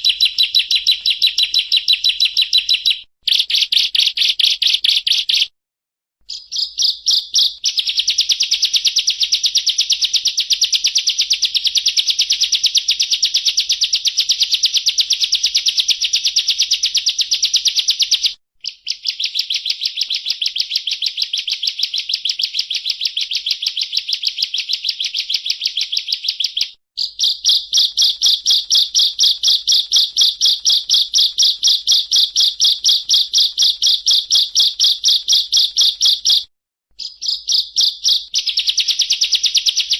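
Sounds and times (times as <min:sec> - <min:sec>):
bird singing rapid trill: 0:00.0 - 0:05.5, 0:06.3 - 0:39.9.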